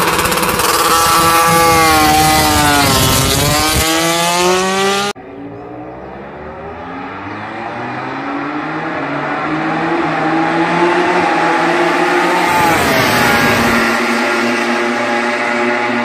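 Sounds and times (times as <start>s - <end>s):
racing motorcycle engine high revs: 0.0s - 5.2s, 7.6s - 16.0s.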